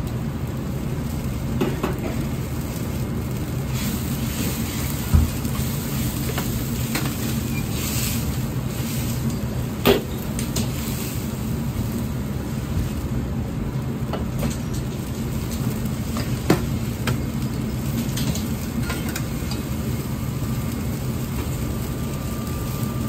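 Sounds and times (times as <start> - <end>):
gas burner rumbling: 0.0 - 23.0
sauce simmering: 2.2 - 23.0.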